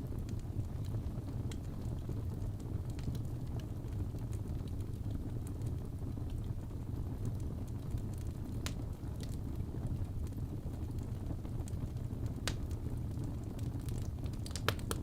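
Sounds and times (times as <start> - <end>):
low rumble of flames: 0.0 - 15.0
wood fire crackles and pops: 0.0 - 15.0.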